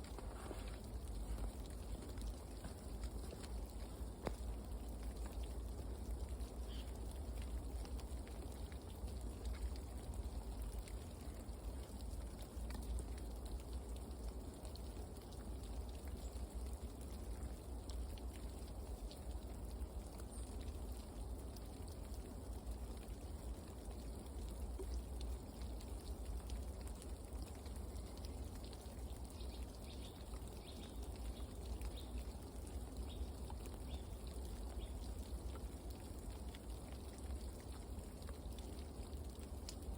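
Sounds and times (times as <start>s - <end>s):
light ticks like dripping: 0.0s - 39.9s.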